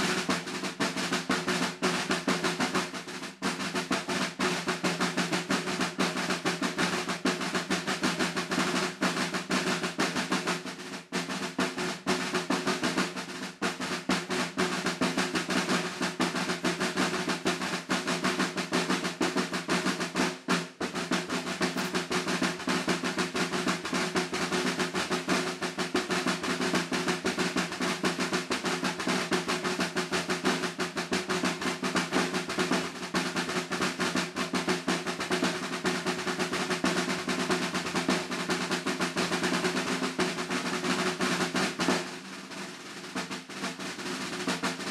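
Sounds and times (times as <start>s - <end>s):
snare drum rolls: 0.0s - 44.9s.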